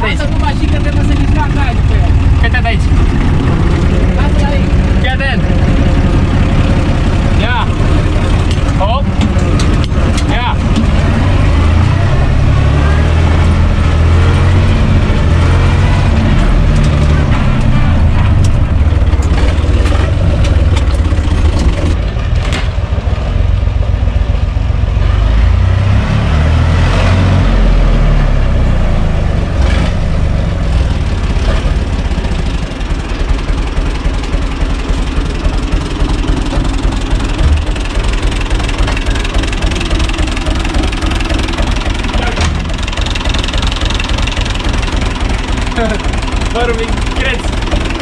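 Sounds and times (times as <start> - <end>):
tractor diesel engine idling: 0.0 - 25.0, 28.7 - 48.0.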